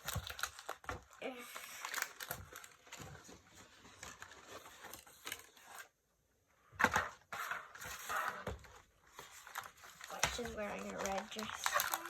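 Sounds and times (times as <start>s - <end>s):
plastic rustling: 0.0s - 6.0s, 6.8s - 12.0s.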